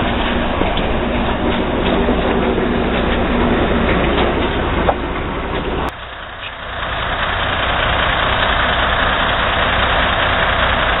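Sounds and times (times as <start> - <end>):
diesel truck engine running: 0.0 - 11.0
road noise: 0.0 - 11.0.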